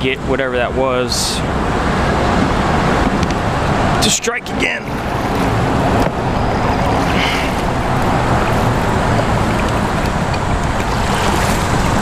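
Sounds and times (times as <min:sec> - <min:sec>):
heavy road traffic: 0:00.0 - 0:12.0.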